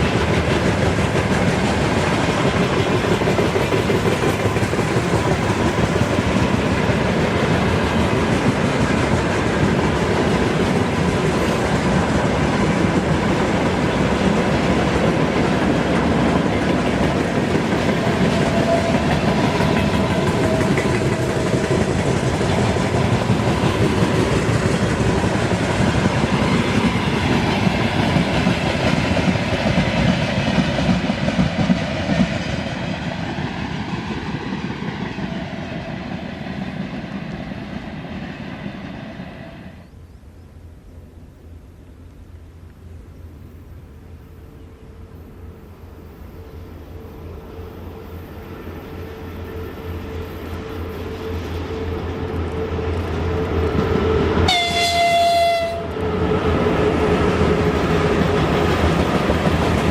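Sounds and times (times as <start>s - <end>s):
train wheels clattering: 0.0s - 38.7s, 49.4s - 59.9s.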